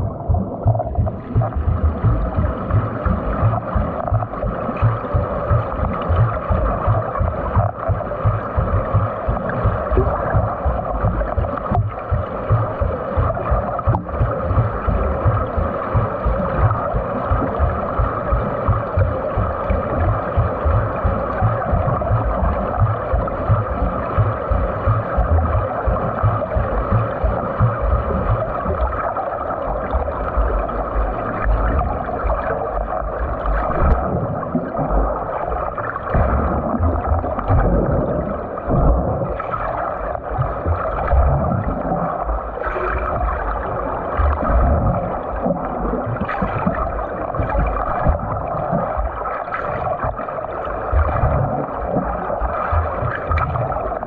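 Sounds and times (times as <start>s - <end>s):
water rushing and churning: 0.0s - 54.0s.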